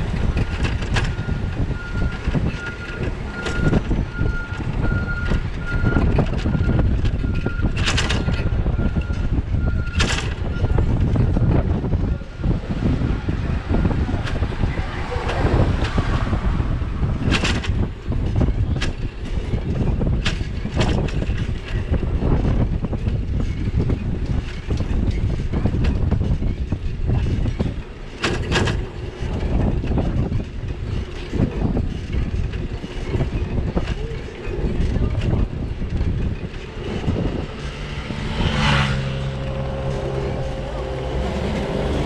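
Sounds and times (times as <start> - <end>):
bicycle knocking and rattling: 0.0 - 40.8
wind and road rumble: 0.0 - 42.0.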